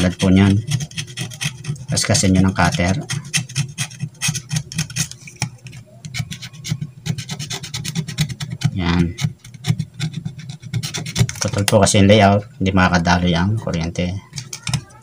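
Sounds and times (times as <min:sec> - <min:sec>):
knife blade scraping wire: 0:00.0 - 0:11.8, 0:14.2 - 0:15.0.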